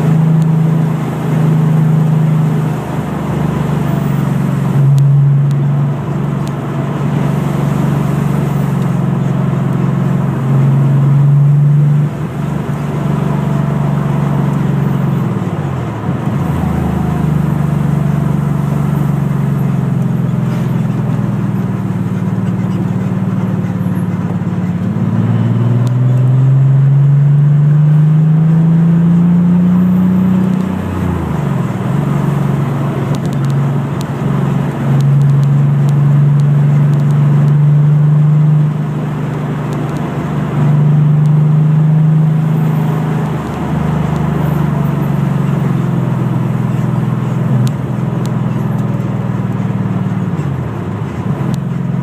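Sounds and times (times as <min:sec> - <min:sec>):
car engine running: 0:00.0 - 0:52.0
road and wind noise: 0:00.0 - 0:52.0.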